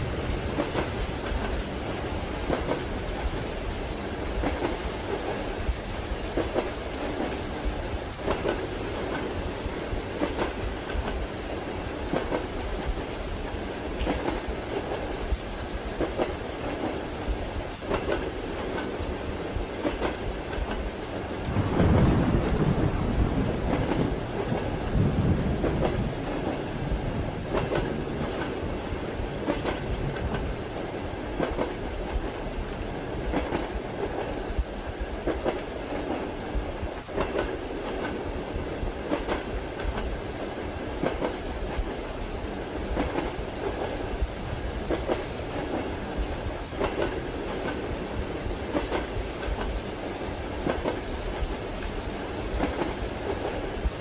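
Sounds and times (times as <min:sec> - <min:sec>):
train wheels clacking over rail joints: 0:00.0 - 0:42.1, 0:42.8 - 0:54.0
steady rain: 0:00.0 - 0:54.0.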